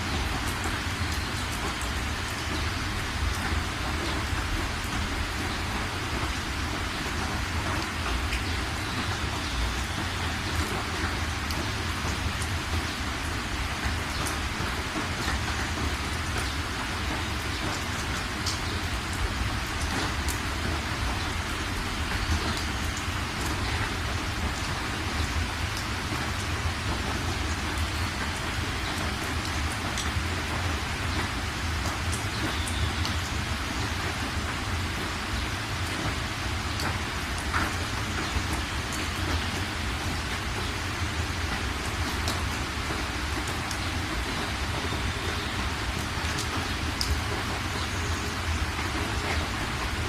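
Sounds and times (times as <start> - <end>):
steady rain hiss: 0.0 - 50.0
raindrop ticks: 0.1 - 50.0.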